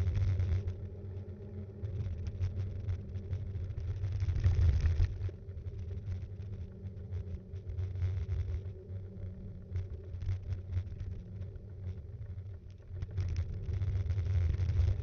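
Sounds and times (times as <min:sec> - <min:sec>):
wind and tyres rumbling on road: 0:00.0 - 0:15.0.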